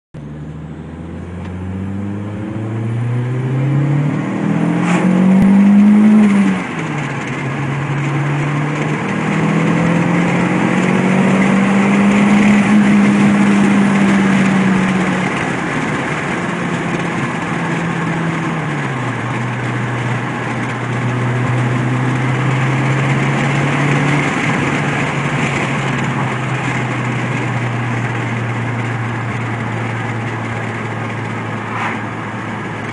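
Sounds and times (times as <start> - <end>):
car engine accelerating: 0.2 - 32.9.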